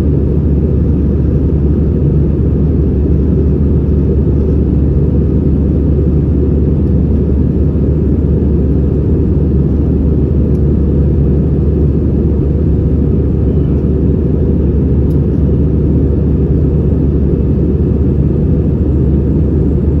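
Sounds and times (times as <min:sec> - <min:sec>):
jet engine drone in cabin: 0:00.0 - 0:20.0.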